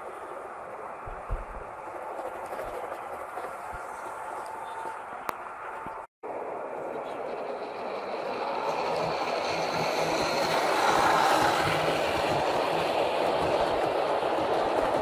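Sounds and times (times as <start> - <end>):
train running along track: 0.0 - 15.0.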